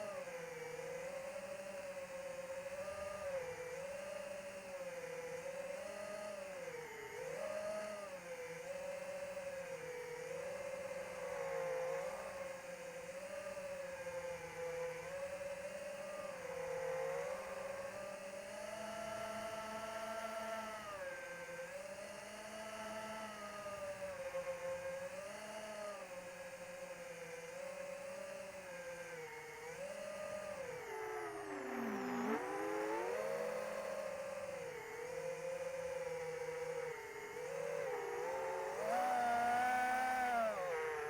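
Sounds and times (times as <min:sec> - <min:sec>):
electric motor and propeller whining: 0:00.0 - 0:41.0.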